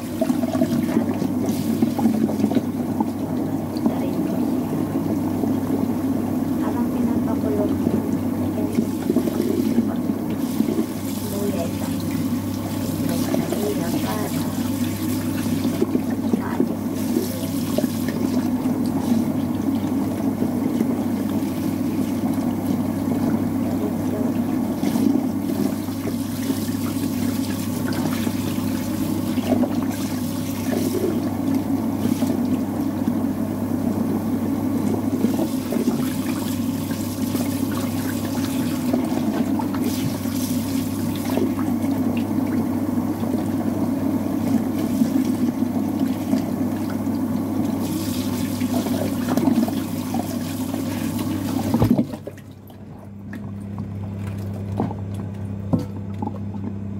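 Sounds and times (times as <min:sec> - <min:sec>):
tap water running: 0:00.0 - 0:56.9.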